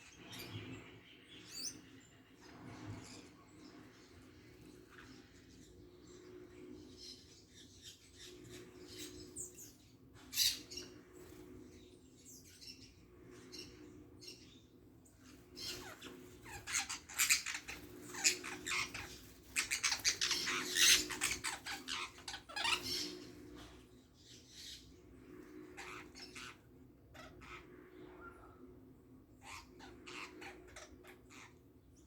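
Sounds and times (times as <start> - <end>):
birds chirping and chattering: 0.0 - 32.0.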